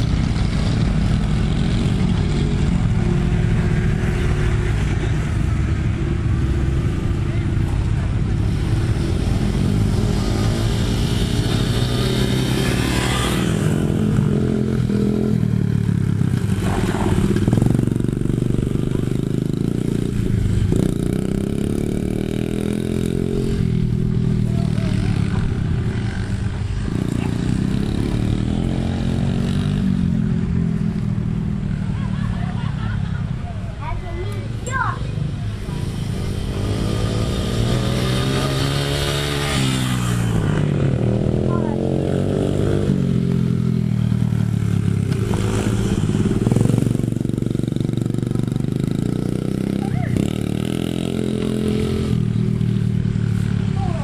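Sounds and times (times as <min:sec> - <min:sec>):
off-road vehicle engine revving: 0:00.0 - 0:30.4, 0:33.8 - 0:43.7, 0:44.3 - 0:54.0.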